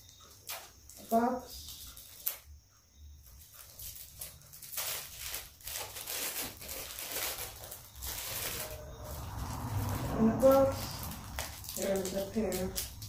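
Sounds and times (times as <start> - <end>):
wrapping paper crinkling and tearing: 0.0 - 2.4, 3.5 - 13.0.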